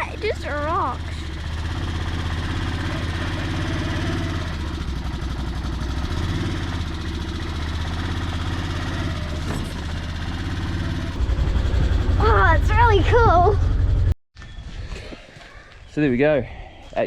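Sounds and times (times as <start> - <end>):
vehicle engine running: 0.0 - 14.2.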